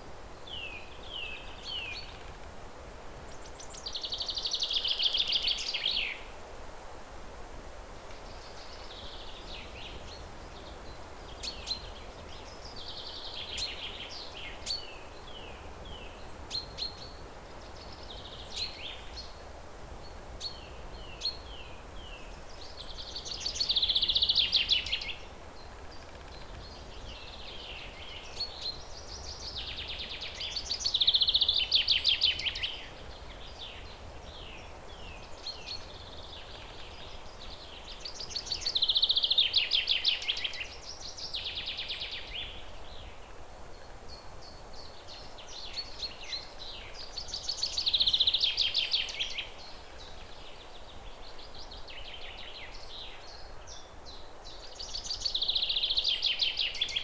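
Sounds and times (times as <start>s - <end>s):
songbirds singing: 0.0s - 6.4s, 7.8s - 57.0s.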